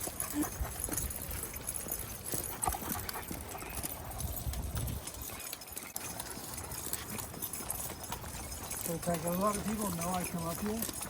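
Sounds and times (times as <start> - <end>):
footsteps clicking and knocking: 0.0 - 11.0.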